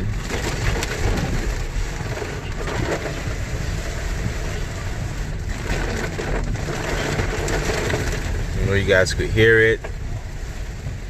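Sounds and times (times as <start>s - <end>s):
car road rumble: 0.0s - 11.0s
heavy rain on car: 0.0s - 11.0s.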